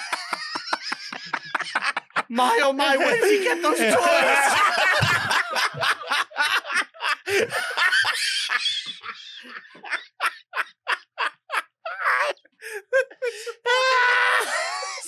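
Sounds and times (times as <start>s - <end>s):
people laughing heartily: 0.0s - 15.0s.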